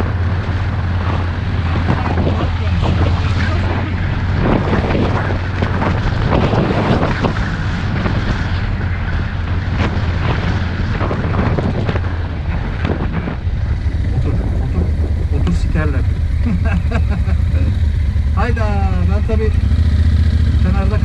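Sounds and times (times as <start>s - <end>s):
vehicle engine and road drone: 0.0s - 21.0s
wind buffeting microphone: 0.0s - 21.0s.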